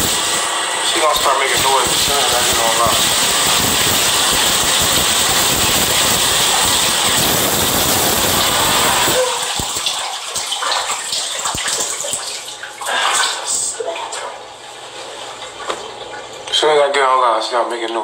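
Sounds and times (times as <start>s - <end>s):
water running from tap: 0.0s - 16.5s.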